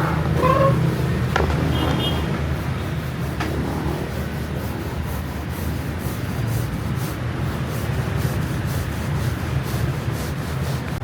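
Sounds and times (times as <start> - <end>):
sanding strokes: 0.0 - 11.0.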